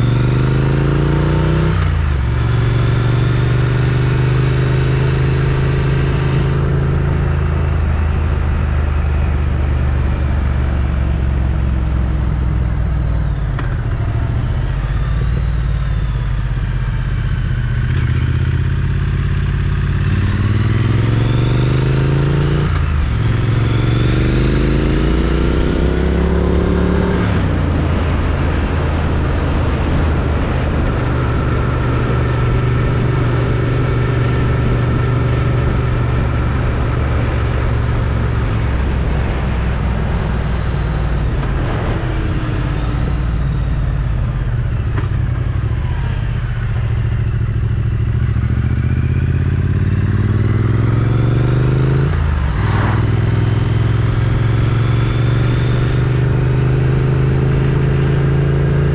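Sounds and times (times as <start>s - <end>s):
motorcycle engine revving through gears: 0.0s - 58.9s.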